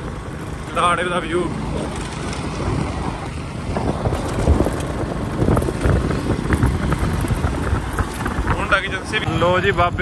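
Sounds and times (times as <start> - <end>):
motorcycle engine running: 0.0 - 10.0
wind and road noise: 0.0 - 10.0.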